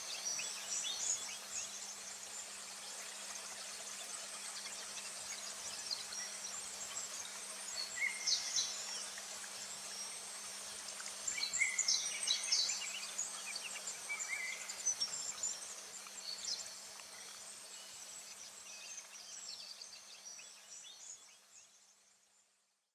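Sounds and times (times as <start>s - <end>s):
insect hiss: 0.0s - 22.4s.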